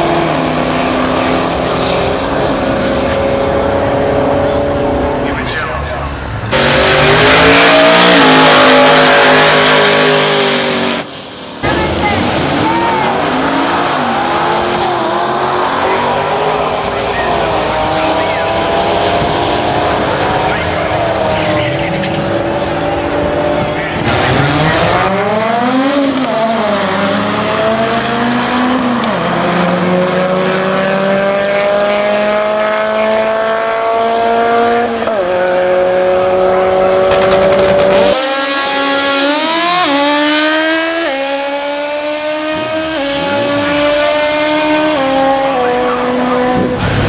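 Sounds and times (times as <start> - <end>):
drag racing engines: 0.0 - 47.0
motorcycle revving: 6.4 - 47.0.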